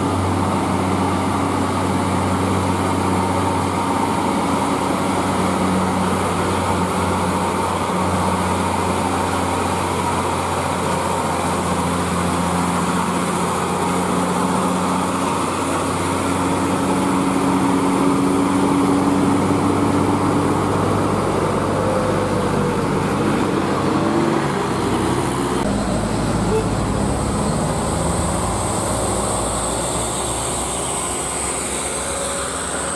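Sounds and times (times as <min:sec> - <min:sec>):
diesel truck engine labouring: 0:00.0 - 0:32.9.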